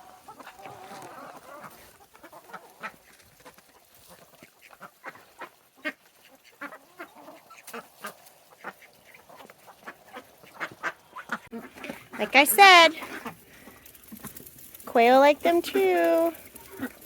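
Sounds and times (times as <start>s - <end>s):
ducks quacking: 0.0s - 13.8s, 15.5s - 17.0s.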